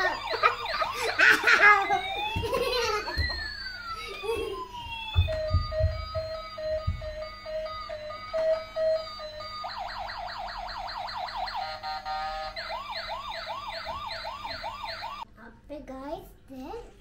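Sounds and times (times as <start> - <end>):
toy car electronic siren: 0.0 - 15.3.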